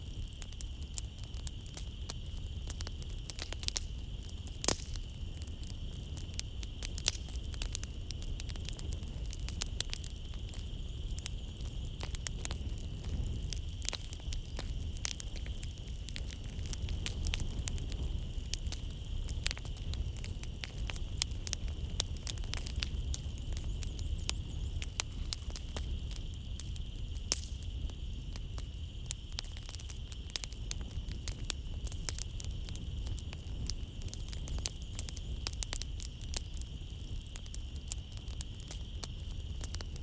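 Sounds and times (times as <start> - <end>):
night insects chirring: 0.0 - 40.0
wood fire crackling and popping: 0.0 - 40.0.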